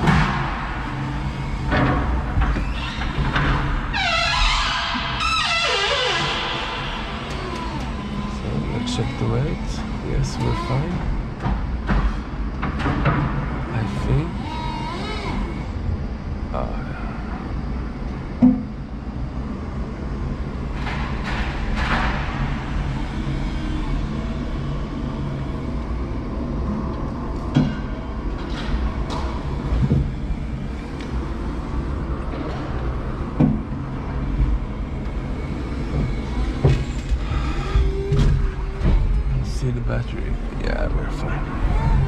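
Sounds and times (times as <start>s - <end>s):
electric forklift humming: 0.0s - 42.0s.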